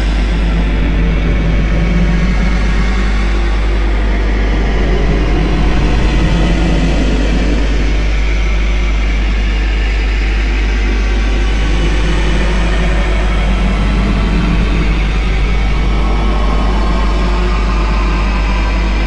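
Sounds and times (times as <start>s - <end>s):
droning background music: 0.0s - 19.0s
heavy low rumble: 0.0s - 19.0s.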